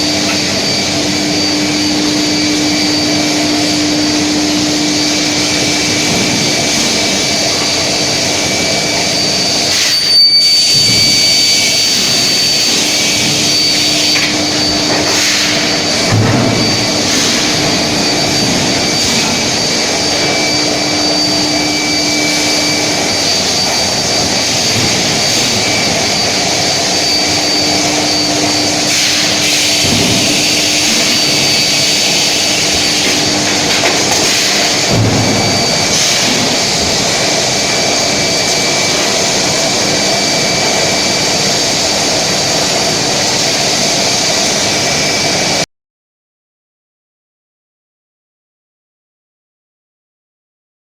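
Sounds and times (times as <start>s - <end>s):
loud machine noise with whine: 0.0s - 45.7s.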